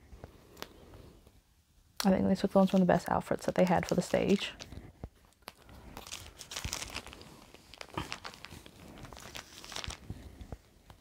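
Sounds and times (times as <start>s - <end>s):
plastic sleeves crinkling: 2.0s - 11.0s.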